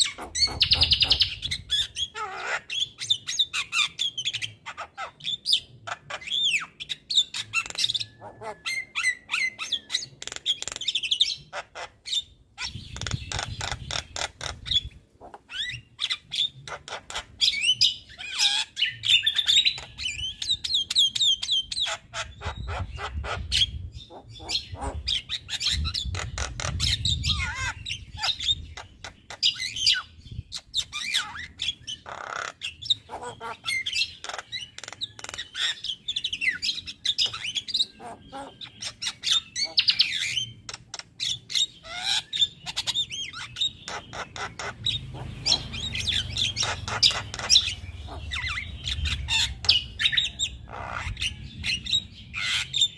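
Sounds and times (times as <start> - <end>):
myna bird singing: 0.0 - 52.9.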